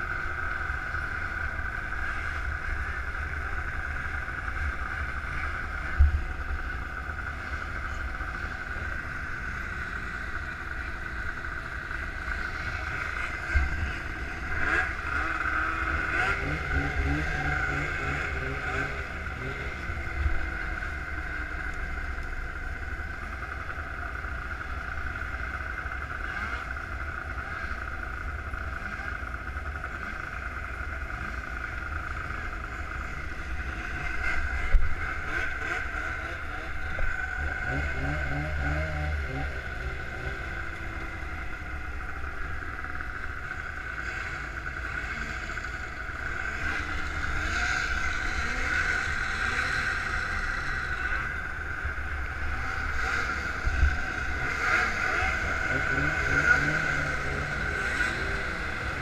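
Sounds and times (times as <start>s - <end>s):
snowmobile engines idling: 0.0s - 59.0s.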